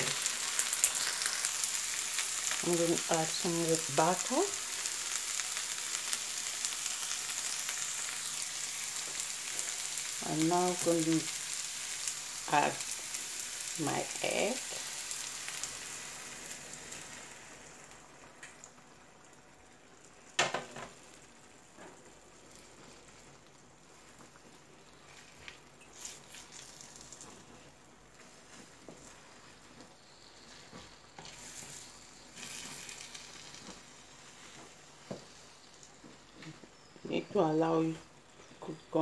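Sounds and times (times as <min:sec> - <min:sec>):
egg sizzling in a pan: 0:00.0 - 0:37.0.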